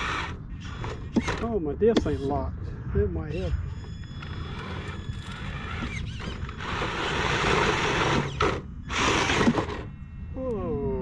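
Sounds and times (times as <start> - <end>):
electric motor and gears whirring: 0.0 - 11.0.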